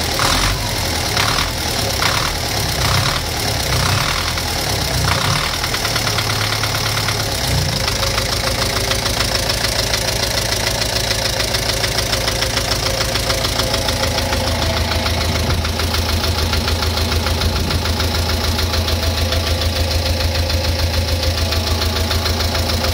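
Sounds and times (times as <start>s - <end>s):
engine idling with rhythmic knock: 0.0s - 22.9s.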